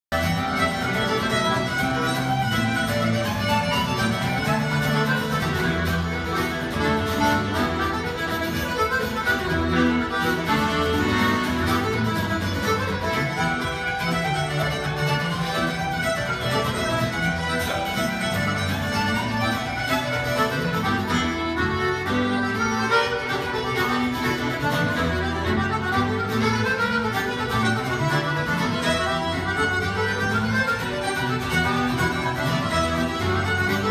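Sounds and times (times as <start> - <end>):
accordion: 0.0 - 33.9
acoustic guitar: 0.1 - 33.9
fiddle melody: 0.1 - 33.9.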